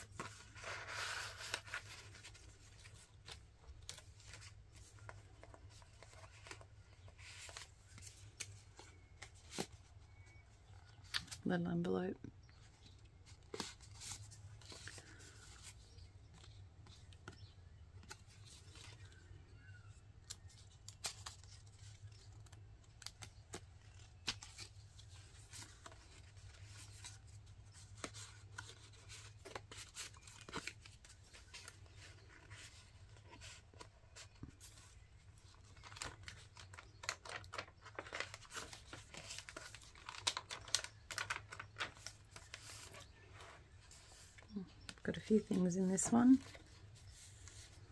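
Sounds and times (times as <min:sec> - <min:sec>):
pages flipping: 0:00.0 - 0:11.4, 0:12.6 - 0:19.6, 0:20.2 - 0:45.4, 0:46.0 - 0:47.9
paper rustling and crinkling: 0:00.0 - 0:11.4, 0:12.5 - 0:47.9.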